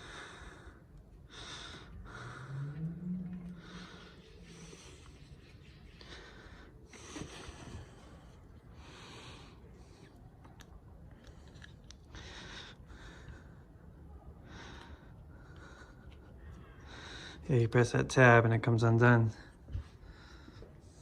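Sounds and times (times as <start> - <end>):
faint breaths: 0.0 - 17.8, 19.0 - 21.0.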